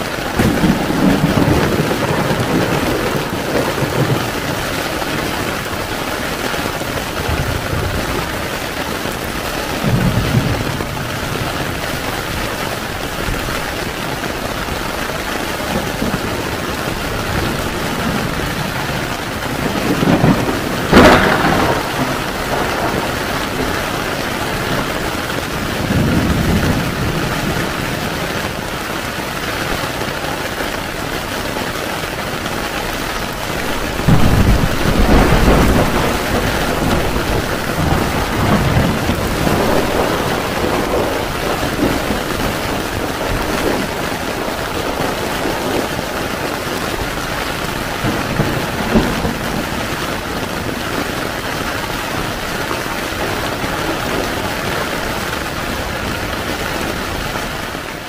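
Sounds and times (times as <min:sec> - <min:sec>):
heavy rain on tent fabric: 0:00.0 - 0:58.0
thunder rumbling: 0:00.0 - 0:58.0.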